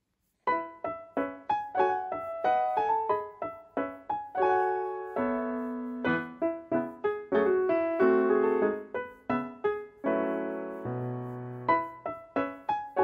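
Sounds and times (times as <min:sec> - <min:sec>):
gentle piano music: 0:00.4 - 0:13.0.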